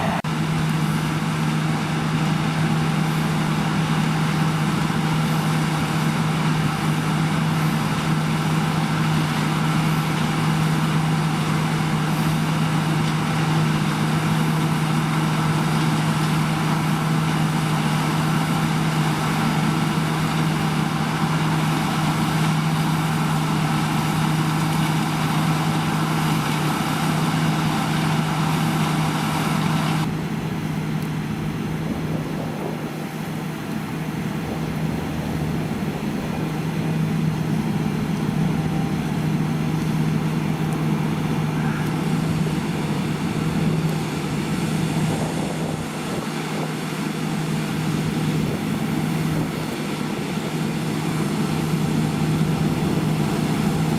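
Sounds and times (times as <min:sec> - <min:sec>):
harvest machinery running: 0:00.0 - 0:53.9.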